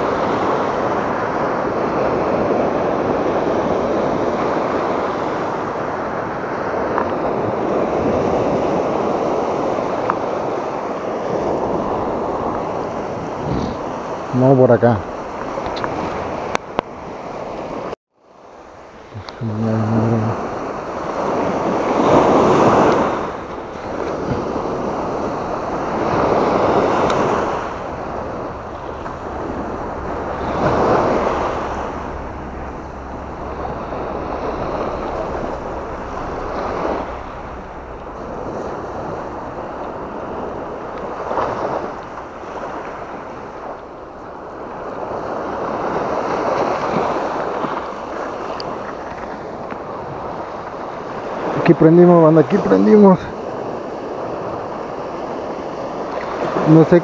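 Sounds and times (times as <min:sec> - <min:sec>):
small waves breaking on beach: 0:00.0 - 0:57.0
wind rumbling on microphone: 0:00.0 - 0:57.0.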